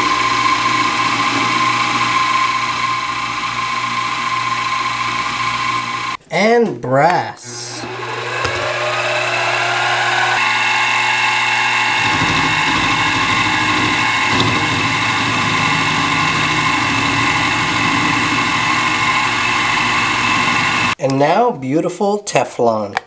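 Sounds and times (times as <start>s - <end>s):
milling machine spindle whine: 0.0s - 6.2s, 7.8s - 21.0s
rough metal cutting noise: 0.0s - 6.2s, 8.0s - 21.0s.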